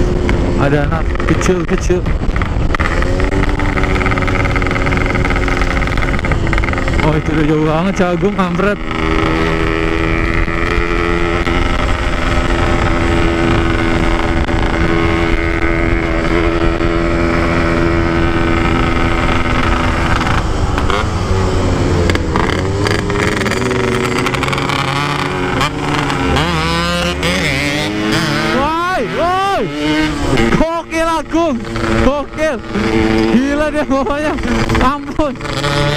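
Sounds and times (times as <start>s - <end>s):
motorcycle engine under load: 0.0s - 35.9s.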